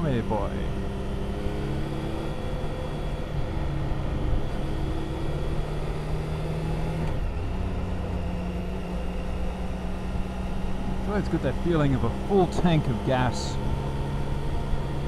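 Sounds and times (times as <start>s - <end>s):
wind and road noise: 0.0s - 15.0s
motorcycle engine running: 0.1s - 15.0s.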